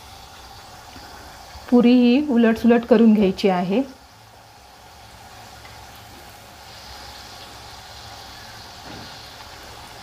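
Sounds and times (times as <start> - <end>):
frying in hot oil: 0.0 - 10.0.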